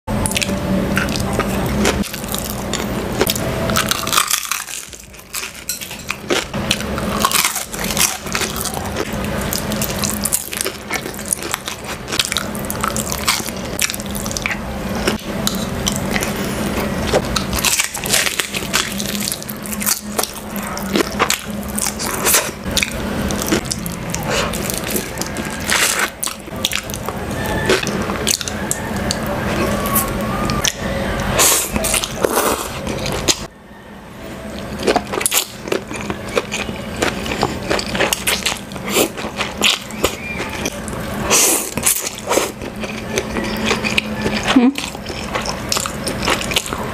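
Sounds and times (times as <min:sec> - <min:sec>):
crunching fried chicken batter: 0:00.1 - 0:33.5, 0:34.6 - 0:46.9
wet chewing: 0:00.2 - 0:33.5, 0:34.6 - 0:46.9.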